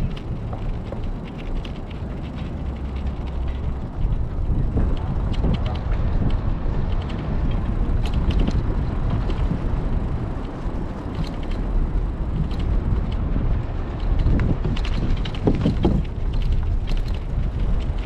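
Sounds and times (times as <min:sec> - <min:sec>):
bicycle freewheel ticking: 0:00.0 - 0:18.0
wind buffeting microphone: 0:00.0 - 0:18.0.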